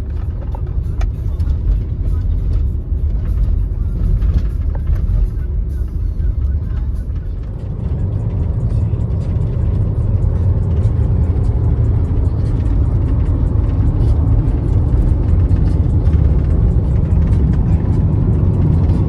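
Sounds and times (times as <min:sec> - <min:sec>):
van engine and tyres rumbling: 0:00.0 - 0:19.0.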